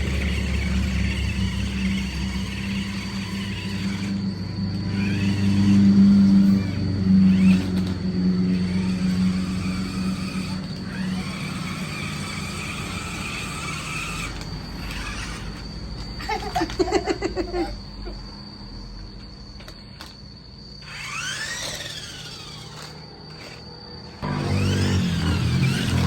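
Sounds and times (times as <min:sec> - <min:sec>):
toy car electric motor whirring: 0:00.0 - 0:18.2, 0:19.6 - 0:26.0.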